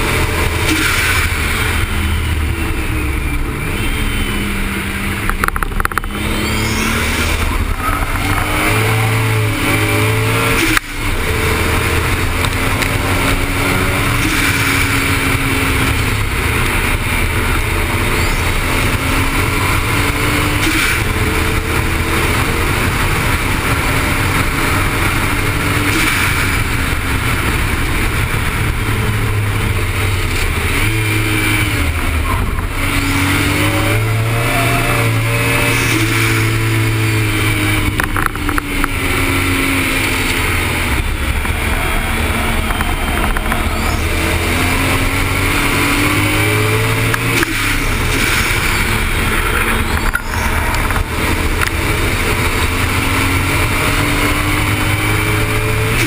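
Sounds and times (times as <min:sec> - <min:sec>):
car engine at full throttle: 0:00.0 - 0:56.0
wind and road noise: 0:00.0 - 0:56.0.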